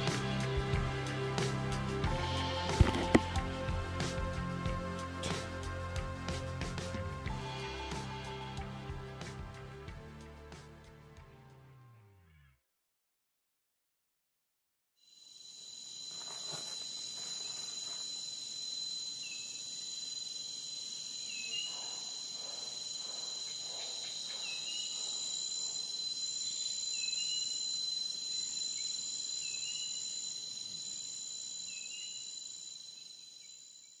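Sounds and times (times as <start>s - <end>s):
insect chorus drone: 0.0s - 9.9s, 15.0s - 34.0s.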